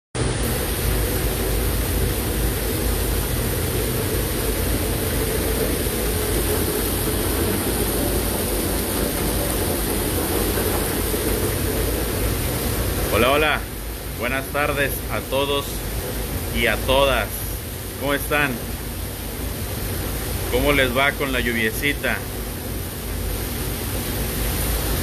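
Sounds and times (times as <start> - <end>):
heavy rain pouring: 0.2 - 25.0.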